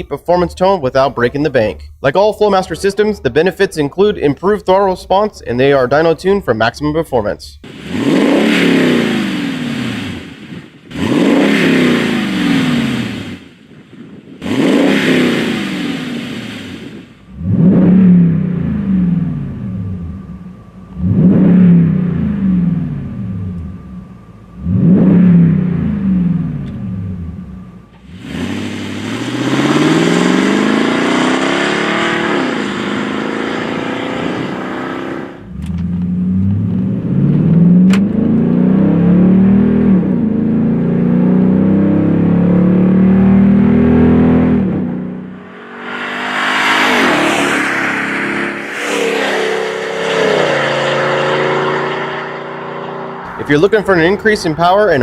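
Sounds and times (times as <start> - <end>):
truck engine revving and accelerating: 7.6 - 13.6, 14.2 - 55.0.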